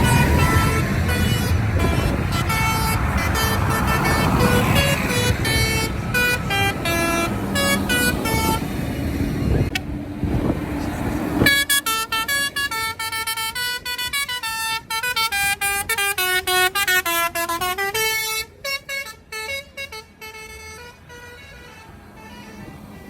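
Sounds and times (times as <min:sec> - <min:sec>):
musical vehicle horn tune: 0:00.0 - 0:09.8, 0:11.4 - 0:23.0.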